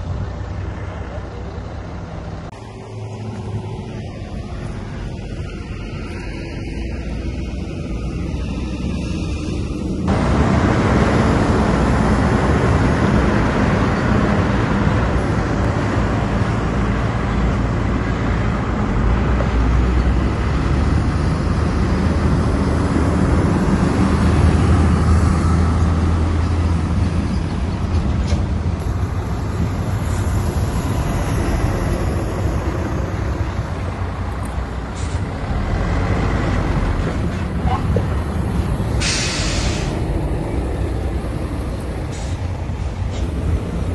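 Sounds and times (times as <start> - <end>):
bulldozer diesel engine: 0.0 - 43.9.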